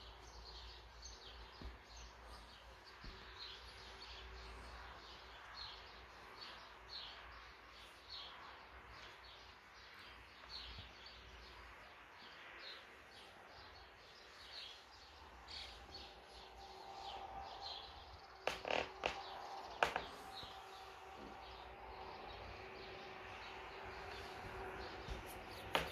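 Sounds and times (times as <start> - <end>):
bird chirping: 0.0 - 25.9.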